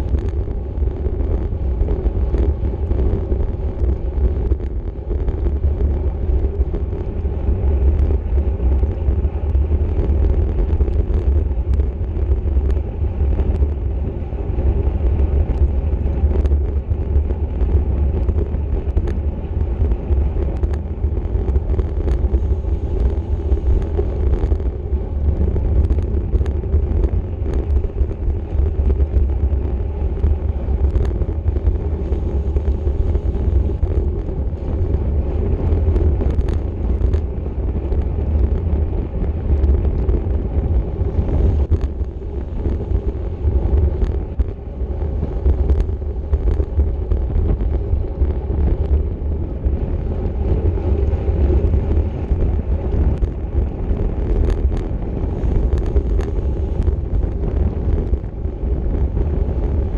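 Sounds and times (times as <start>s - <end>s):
tyres rumbling on pavement: 0.0s - 59.9s
wind rushing over microphone: 0.0s - 59.9s.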